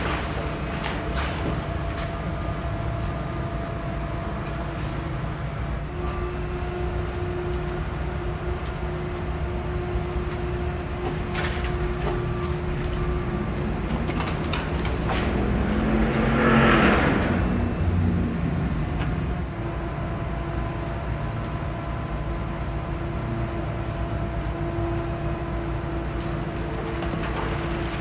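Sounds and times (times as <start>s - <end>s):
heavy vehicle engine rumble: 0.0s - 28.0s.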